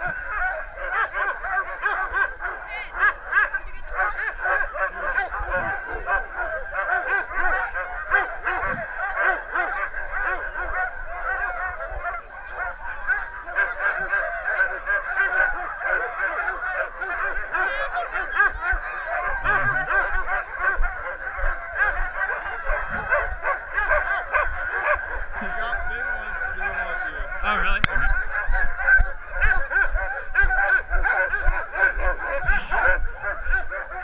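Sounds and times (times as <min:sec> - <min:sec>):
dogs barking and yelping: 0:00.0 - 0:34.0.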